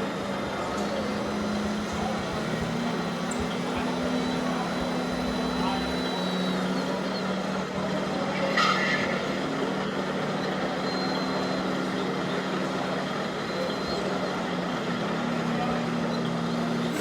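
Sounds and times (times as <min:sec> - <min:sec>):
model trucks humming: 0:00.0 - 0:17.0.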